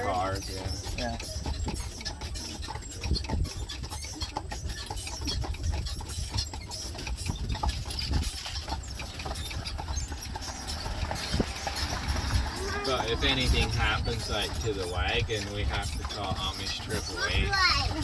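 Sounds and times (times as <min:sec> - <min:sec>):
buggy wheels rattling: 0:00.0 - 0:18.0
horse hooves clicking: 0:00.0 - 0:18.0.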